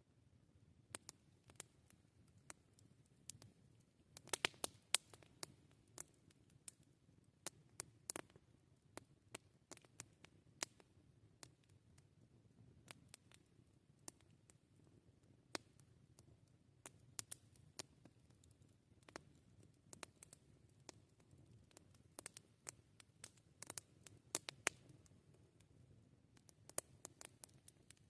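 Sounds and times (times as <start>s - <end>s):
campfire crackling: 0.8s - 28.0s.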